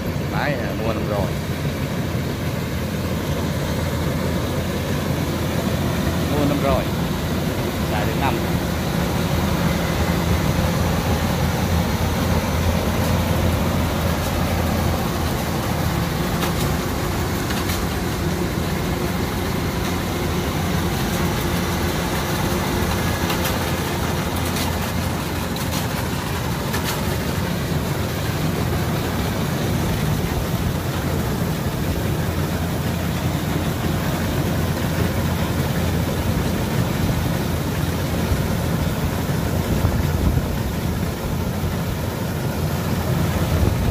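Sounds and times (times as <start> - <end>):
combine harvester engine humming: 0.0 - 43.9.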